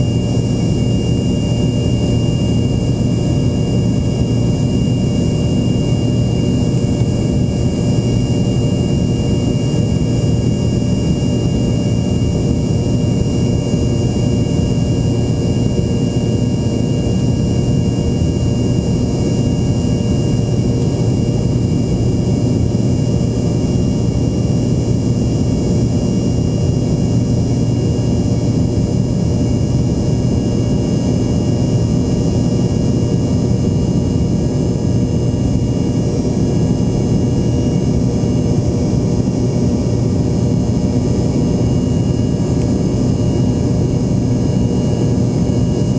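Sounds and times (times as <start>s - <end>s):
high engine whine: 0.0s - 45.9s
jet engine cabin drone: 0.0s - 45.9s.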